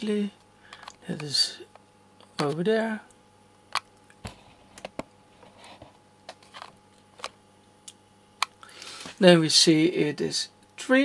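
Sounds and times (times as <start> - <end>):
low steady background hum: 0.0 - 11.0.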